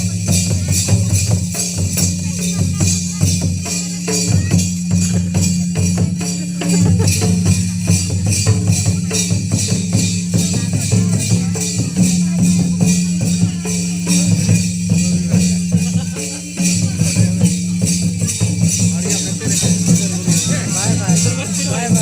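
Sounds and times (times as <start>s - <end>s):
drumming in steady rhythm: 0.0s - 22.0s
jingling rattling percussion: 0.0s - 22.0s.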